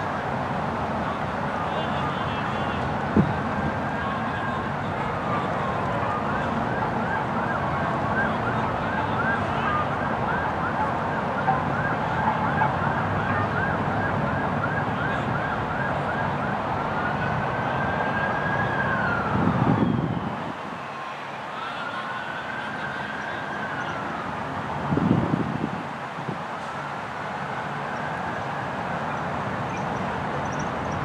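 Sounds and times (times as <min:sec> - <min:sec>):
emergency vehicle siren: 0:00.0 - 0:31.0
low traffic rumble: 0:00.0 - 0:31.0.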